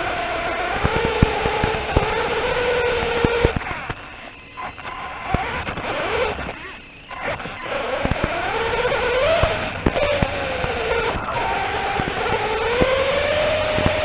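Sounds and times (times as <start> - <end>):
toy car motor whining: 0.0 - 14.0.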